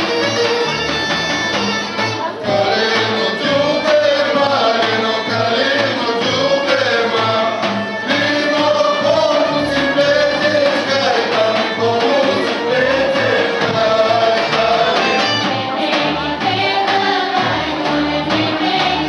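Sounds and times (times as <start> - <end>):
folk dance music: 0.0 - 19.0
steady drum beat: 0.0 - 19.0
group of voices singing: 2.2 - 19.0.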